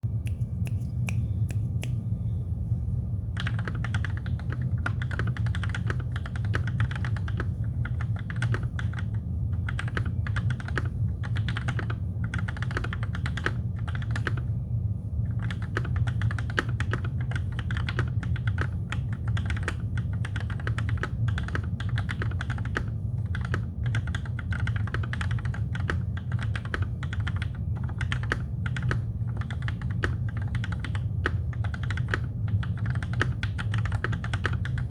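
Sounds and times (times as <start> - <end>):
steady low hum: 0.0 - 34.9
typing on mechanical keyboard: 3.4 - 14.5, 15.3 - 34.9.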